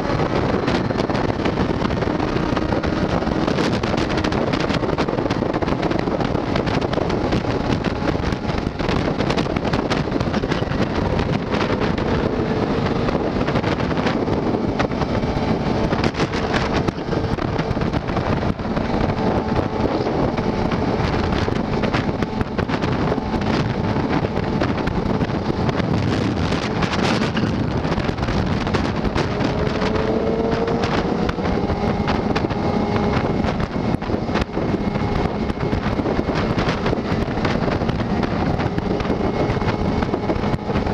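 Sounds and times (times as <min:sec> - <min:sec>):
motorcycle engine drone: 0:00.0 - 0:40.9
wind roaring over microphone: 0:00.0 - 0:40.9.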